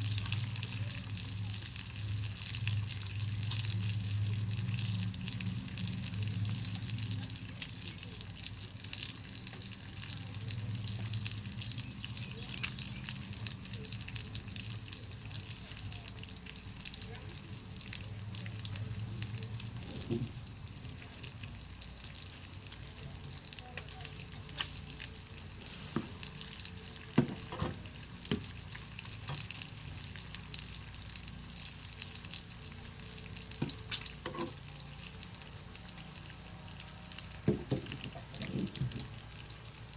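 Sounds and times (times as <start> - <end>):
bacon sizzling in a pan: 0.0 - 39.9.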